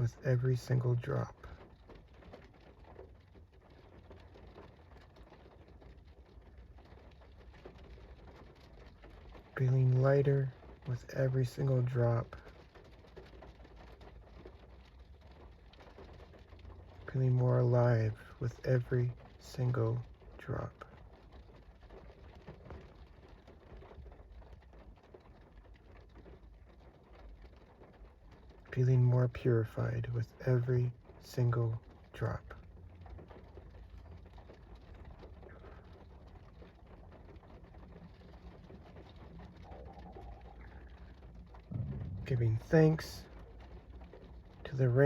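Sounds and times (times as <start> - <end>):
faint steady rain: 0.0 - 45.0.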